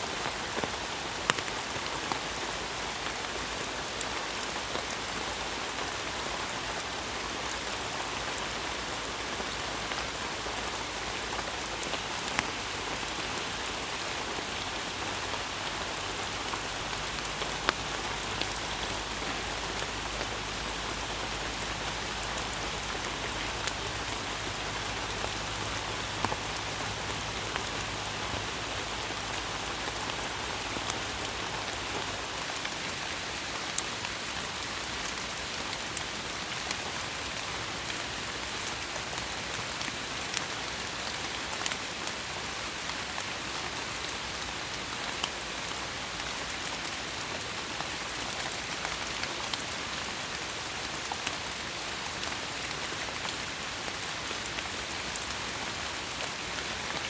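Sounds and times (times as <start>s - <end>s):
rain hissing on leaves: 0.0s - 57.0s.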